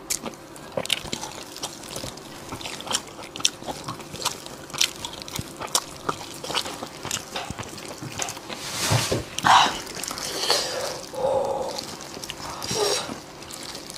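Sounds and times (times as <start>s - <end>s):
person biting and chewing food: 0.0s - 13.9s.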